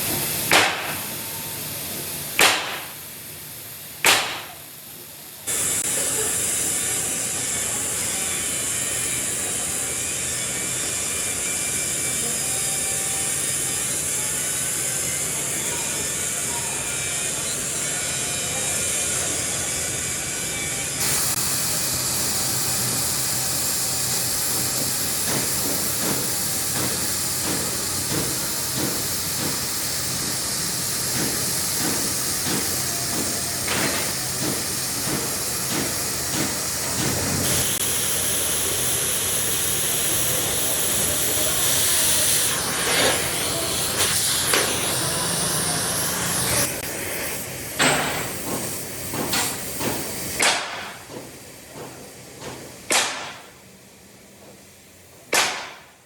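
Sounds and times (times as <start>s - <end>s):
compressed air hissing: 0.0s - 20.0s, 20.9s - 53.7s.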